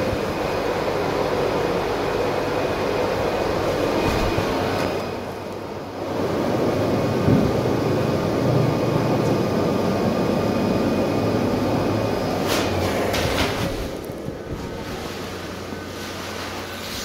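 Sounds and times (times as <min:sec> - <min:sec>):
machine running steadily: 0:00.0 - 0:17.0.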